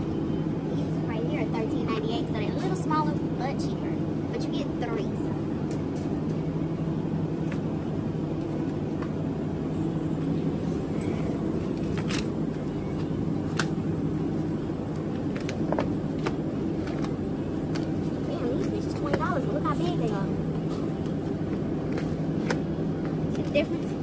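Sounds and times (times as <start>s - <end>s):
refrigerator and ventilation hum: 0.0s - 24.0s.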